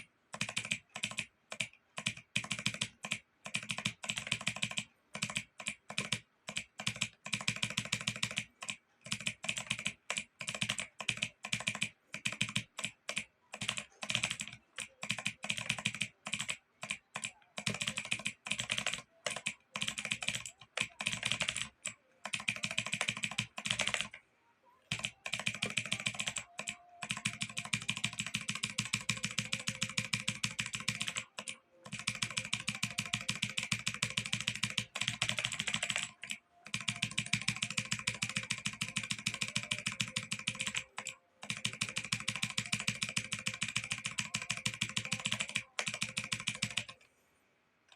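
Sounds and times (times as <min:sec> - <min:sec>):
keyboard typing: 0:00.0 - 0:47.2.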